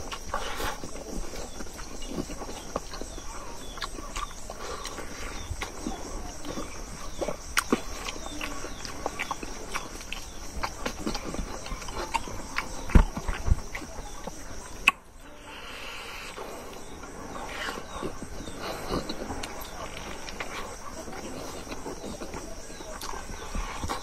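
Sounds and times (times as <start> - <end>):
man chewing and lip-smacking: 0.0 - 15.0, 16.3 - 24.0.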